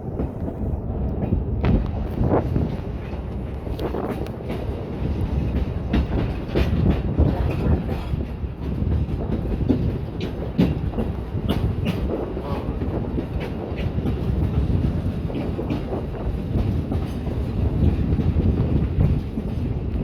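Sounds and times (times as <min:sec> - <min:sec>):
train rumble: 0:00.0 - 0:20.0
wheels clacking over rail joints: 0:00.0 - 0:20.0.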